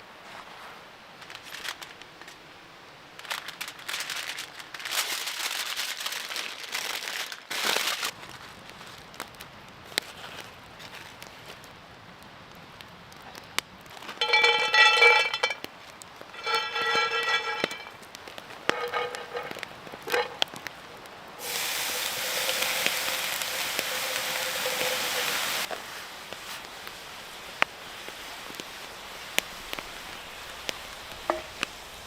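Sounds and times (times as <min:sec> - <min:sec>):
crackles and clicks: 0:01.2 - 0:32.0
food sizzling over coals: 0:01.2 - 0:32.0.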